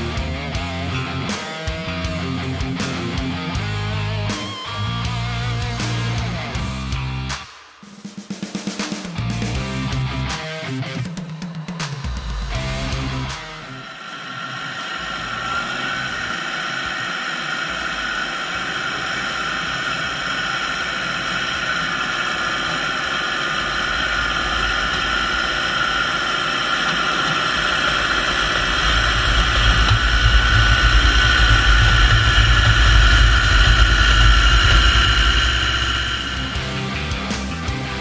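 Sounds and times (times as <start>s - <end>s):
dozer engine whine: 0.0s - 7.4s, 9.2s - 38.0s
rumble of engine and tracks: 0.0s - 7.5s, 8.6s - 38.0s.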